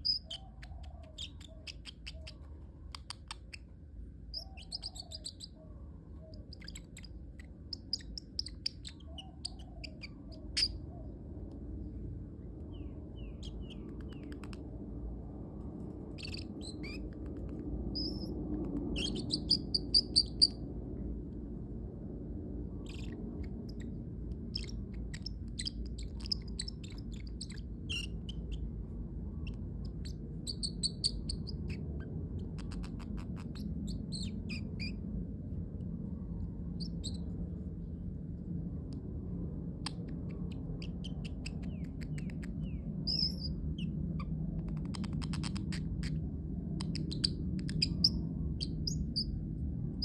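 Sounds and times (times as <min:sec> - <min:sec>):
parrotlet chirping and squeaking: 0:00.0 - 0:10.9, 0:12.6 - 0:14.9, 0:15.8 - 0:20.7, 0:22.8 - 0:35.1, 0:36.6 - 0:37.7, 0:39.7 - 0:50.0
low background hum: 0:00.0 - 0:50.0.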